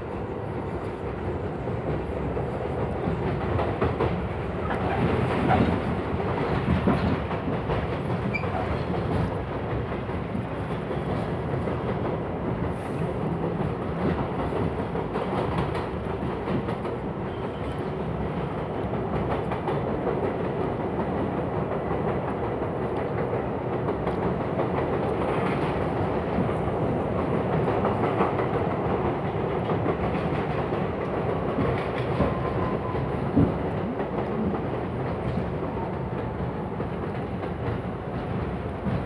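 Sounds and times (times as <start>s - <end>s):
clickety-clack over rail joints: 0.0s - 39.0s
train wheels rumbling on rail: 0.0s - 39.0s.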